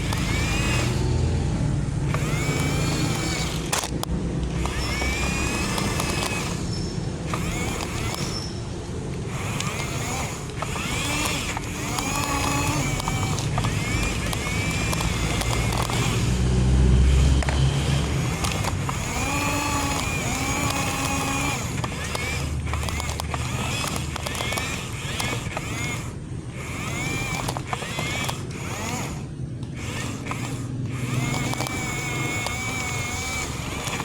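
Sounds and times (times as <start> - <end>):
toy electric motors whining: 0.0 - 34.0.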